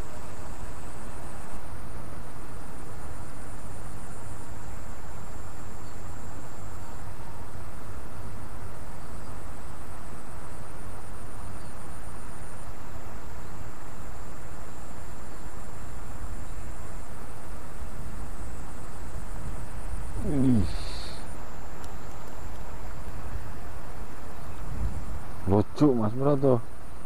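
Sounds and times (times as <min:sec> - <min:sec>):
high-pitched insect trill: 0:00.0 - 0:27.0.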